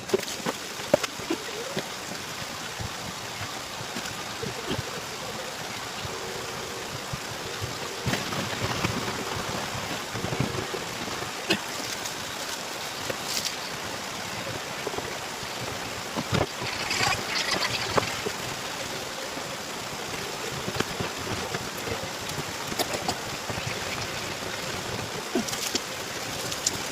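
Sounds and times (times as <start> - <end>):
water running and splashing: 0.0 - 26.9.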